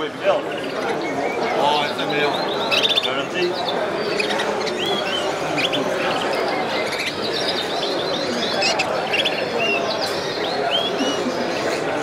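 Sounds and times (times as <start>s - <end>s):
canaries chirping: 0.0s - 12.0s
steady background noise: 0.0s - 12.0s.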